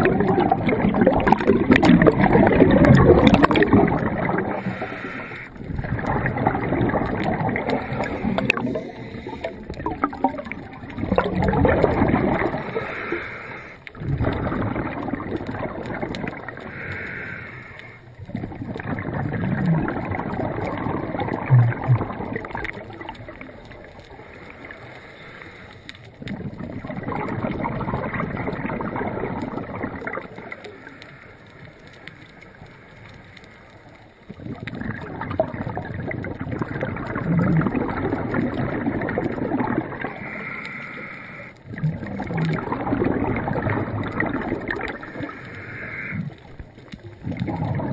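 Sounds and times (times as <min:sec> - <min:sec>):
muffled underwater sloshing: 0:00.0 - 0:47.9.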